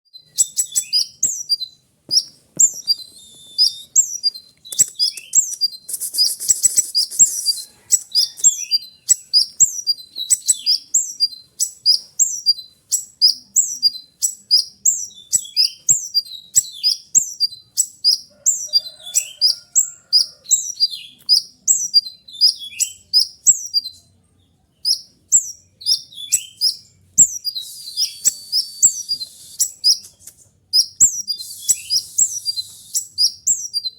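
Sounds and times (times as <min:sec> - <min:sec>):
bird singing high chirps: 0:00.1 - 0:33.9.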